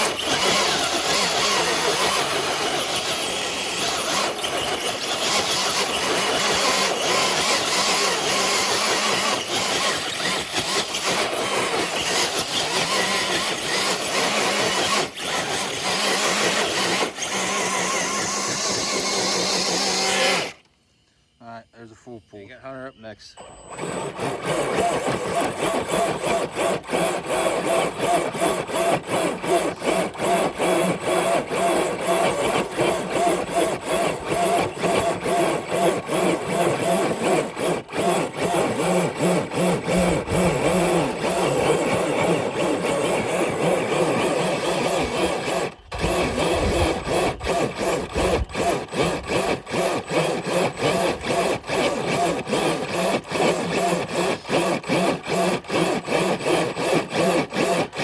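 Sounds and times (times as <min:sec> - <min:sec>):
rapid clicking and scraping: 0:00.0 - 0:20.7, 0:23.8 - 0:58.0
electric motor whining under load: 0:00.0 - 0:20.8, 0:23.4 - 0:58.0.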